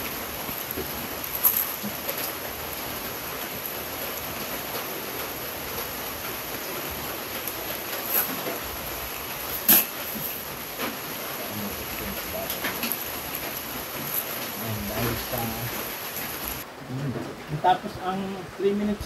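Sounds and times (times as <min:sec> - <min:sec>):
steady rushing noise: 0:00.0 - 0:16.7.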